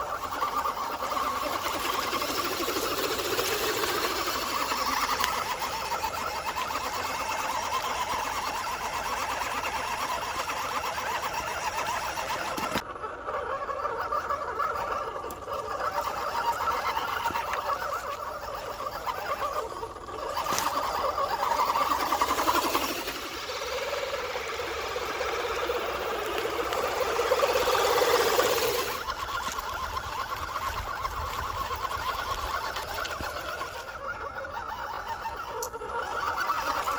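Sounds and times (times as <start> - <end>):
electric motor and gears whirring: 0.0 - 36.9.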